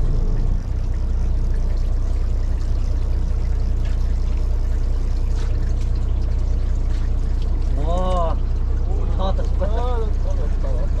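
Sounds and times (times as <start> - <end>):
boat engine humming: 0.0 - 11.0
water splashing along hull: 0.0 - 11.0.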